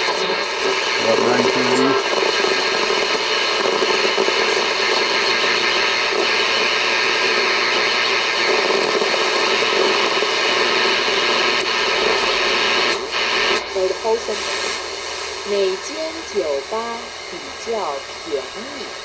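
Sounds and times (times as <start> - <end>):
radio static and hiss: 0.0 - 19.0.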